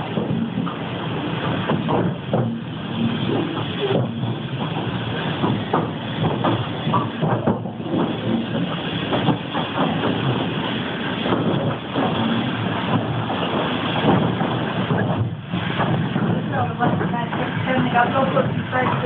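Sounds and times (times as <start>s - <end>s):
train rumble: 0.0s - 19.0s
wheels clanking on track: 0.0s - 19.0s.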